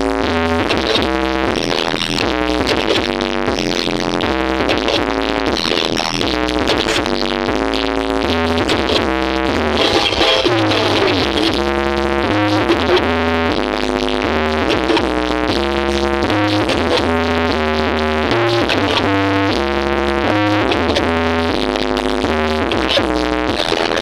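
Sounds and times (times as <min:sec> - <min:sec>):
loud electronic dance music: 0:00.0 - 0:24.0.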